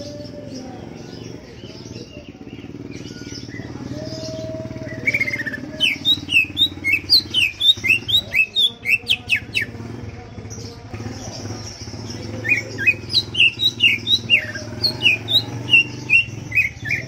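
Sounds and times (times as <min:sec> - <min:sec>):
bird singing whistled notes: 0:00.0 - 0:09.8, 0:11.8 - 0:17.0.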